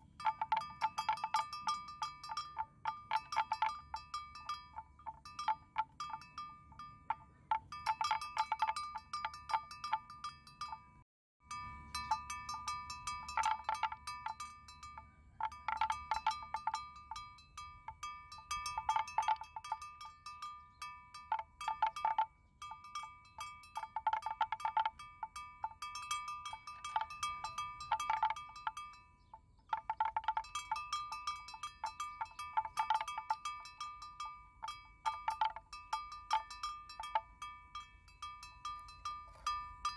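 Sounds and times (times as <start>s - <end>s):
metal collar bell clinking: 0.2s - 10.8s, 11.5s - 39.9s.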